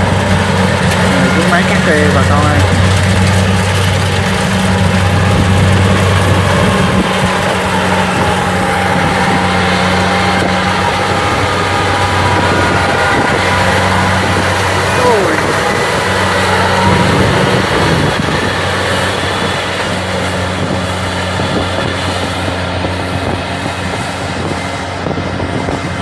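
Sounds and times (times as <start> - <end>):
engine hum: 0.0 - 26.0
machine whine: 0.0 - 26.0.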